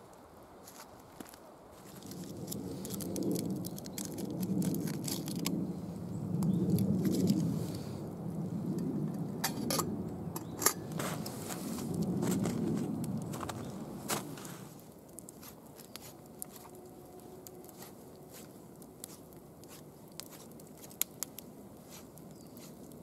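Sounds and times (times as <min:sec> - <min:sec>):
fire crackles: 0:00.0 - 0:23.0
log fire rushing: 0:00.0 - 0:23.0.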